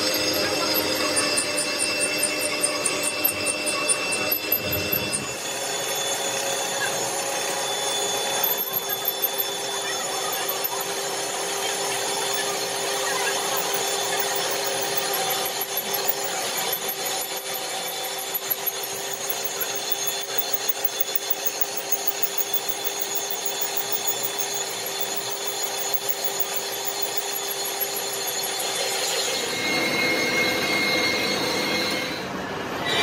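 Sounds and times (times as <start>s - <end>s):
metal cutting scraping: 0.0s - 33.0s
metalworking machine humming: 0.0s - 33.0s.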